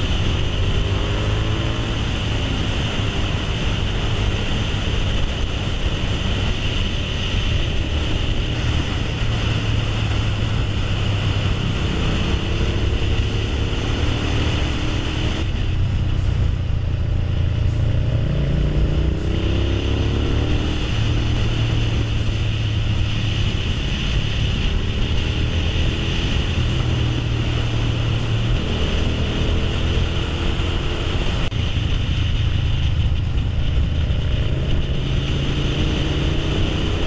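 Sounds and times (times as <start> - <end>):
motorcycle engine rumble: 0.0 - 37.0
wind rush: 0.0 - 37.0.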